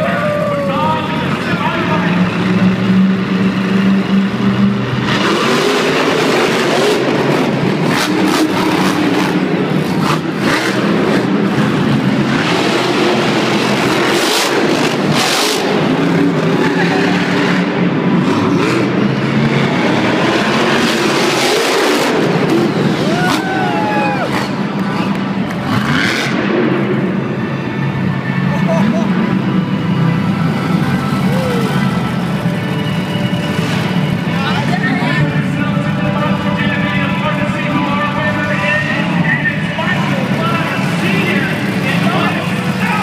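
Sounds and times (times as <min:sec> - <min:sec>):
monster truck engine revving: 0:00.0 - 0:43.0.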